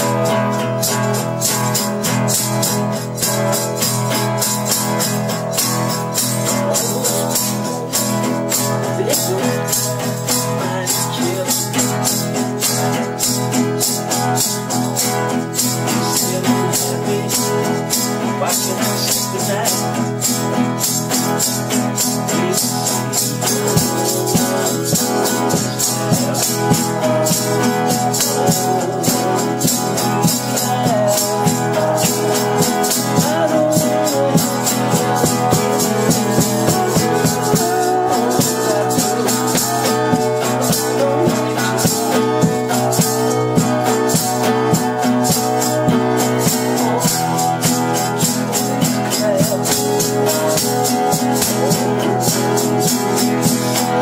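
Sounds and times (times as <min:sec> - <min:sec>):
rattling shaker: 0:00.0 - 0:54.0
strummed acoustic guitars: 0:00.0 - 0:54.0.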